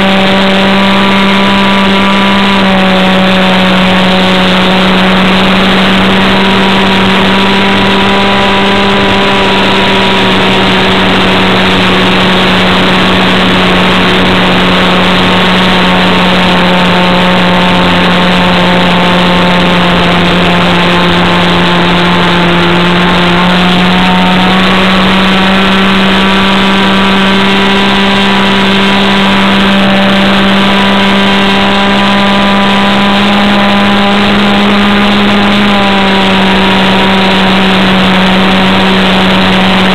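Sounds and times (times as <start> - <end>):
model airplane engine buzzing: 0.0 - 39.9.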